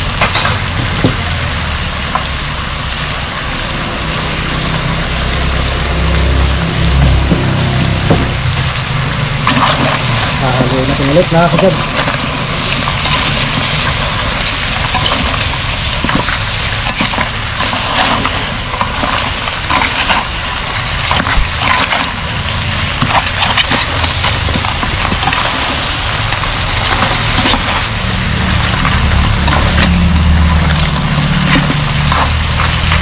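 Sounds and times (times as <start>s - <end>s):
low steady rumble: 0.0s - 33.0s
steady sizzle: 0.0s - 33.0s
spoon and spatula scraping wok: 6.0s - 33.0s.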